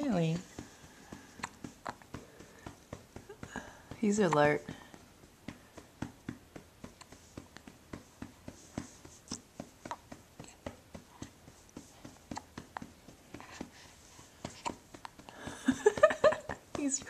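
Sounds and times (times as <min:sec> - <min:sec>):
soft tapping on a baby: 0:00.0 - 0:17.0.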